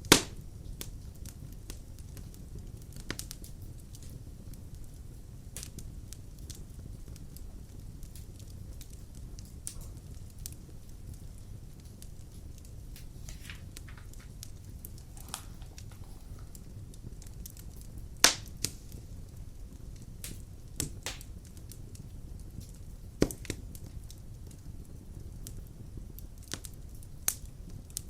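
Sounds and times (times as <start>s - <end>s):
fire flames rumbling: 0.0s - 28.0s
wood fire crackling and popping: 0.0s - 28.0s.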